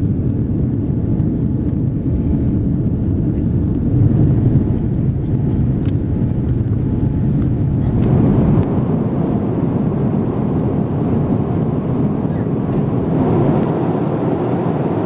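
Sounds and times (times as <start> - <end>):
jet airliner rumble: 0.0 - 15.0.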